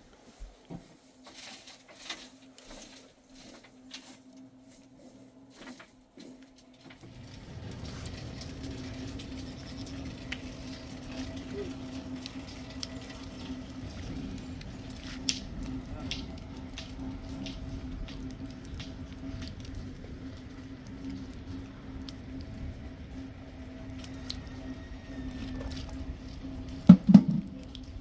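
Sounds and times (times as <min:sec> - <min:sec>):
rain pattering: 0:05.5 - 0:28.0.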